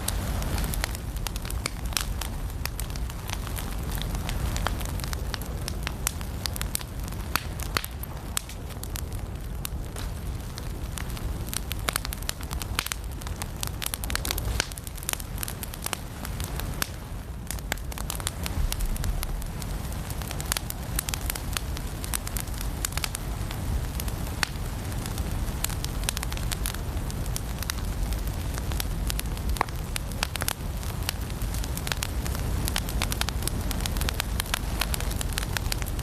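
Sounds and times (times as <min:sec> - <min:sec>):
firewood crackling and popping: 0:00.0 - 0:36.0
low rush of flames: 0:00.0 - 0:36.0.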